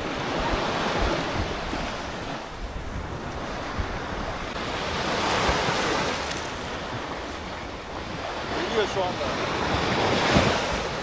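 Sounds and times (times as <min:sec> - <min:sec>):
sea waves washing in: 0:00.0 - 0:11.0
wind buffeting microphone: 0:00.0 - 0:11.0.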